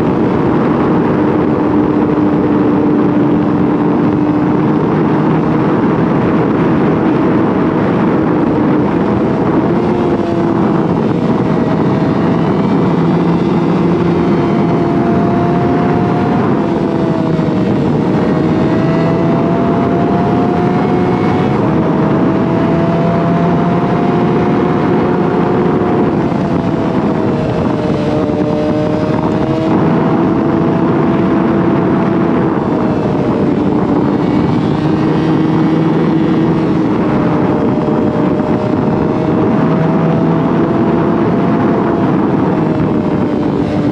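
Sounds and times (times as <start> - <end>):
motorcycle engine cruising: 0.0 - 43.9
wind noise: 0.0 - 43.9.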